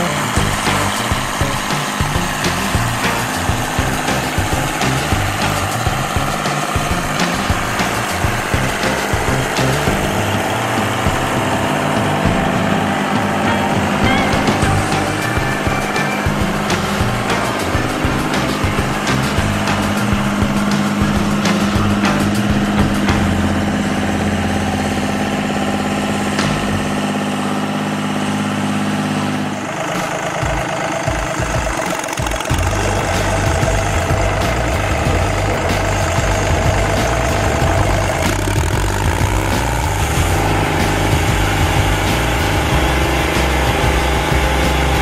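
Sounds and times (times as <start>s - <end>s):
cutter wheel grinding stump: 0.0s - 45.0s
stump grinder engine running: 0.0s - 45.0s.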